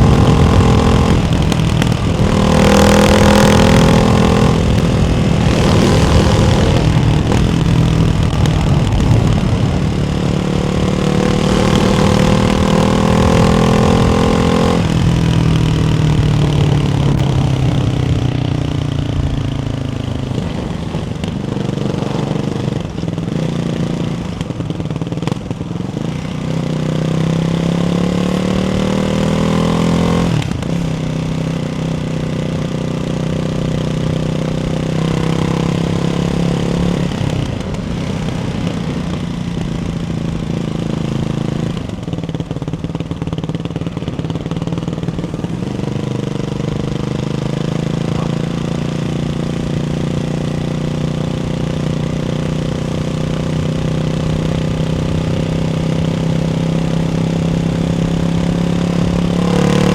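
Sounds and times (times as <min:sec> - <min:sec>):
single-cylinder motorcycle engine revving: 0:00.0 - 0:59.9.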